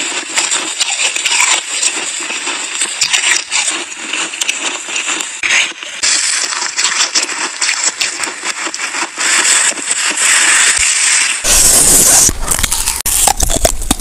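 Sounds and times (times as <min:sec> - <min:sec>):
snow being chewed: 0:00.0 - 0:14.0.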